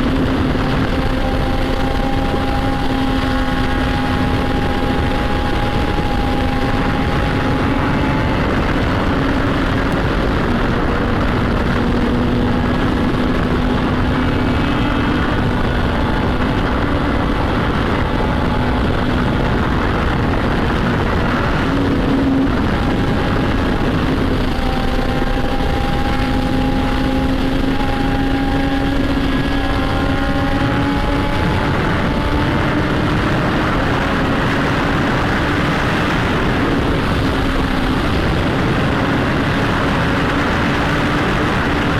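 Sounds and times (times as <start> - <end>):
motorcycle engine cruising: 0.0 - 41.9
wind noise on microphone: 0.0 - 41.9.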